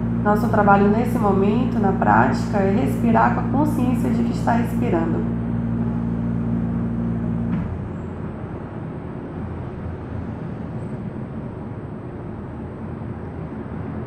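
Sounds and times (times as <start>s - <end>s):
low mechanical hum: 0.0s - 14.0s
steady rushing background noise: 0.0s - 14.0s.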